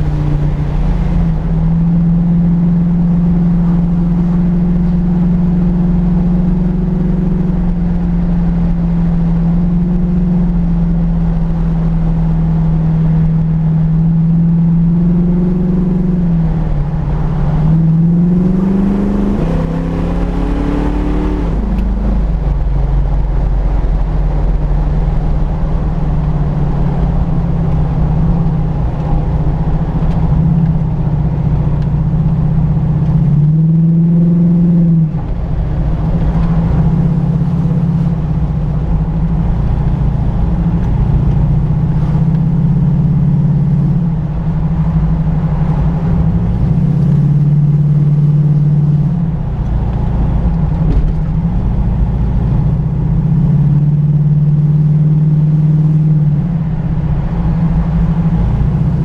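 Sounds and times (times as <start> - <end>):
car engine running: 0.0 - 59.0
road rumble: 0.0 - 59.0.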